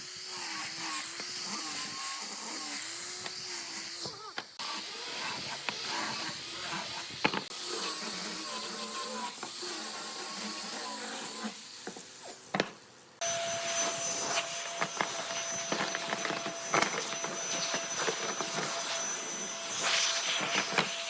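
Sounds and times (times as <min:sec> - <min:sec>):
power tool cutting wood: 0:00.0 - 0:21.0.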